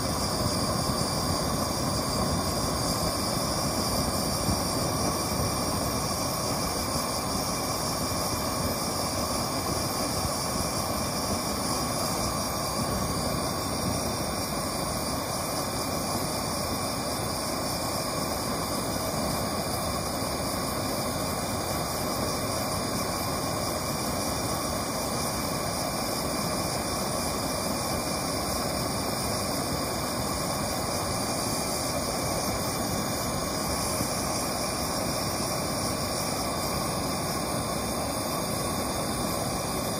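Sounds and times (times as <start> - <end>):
gas torch flame rushing: 0.0 - 39.9.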